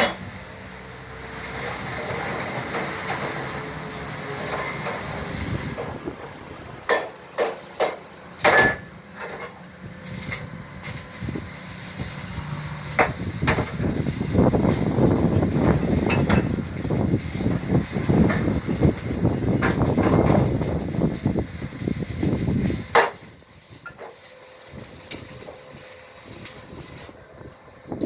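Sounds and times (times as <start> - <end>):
shop noise: 0.0 - 28.0.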